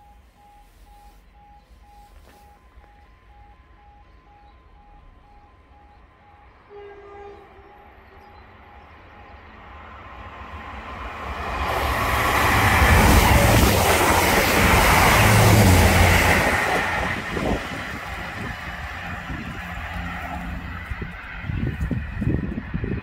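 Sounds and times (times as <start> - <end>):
train engine rumble: 0.0 - 23.0
train wheel rush: 0.0 - 23.0.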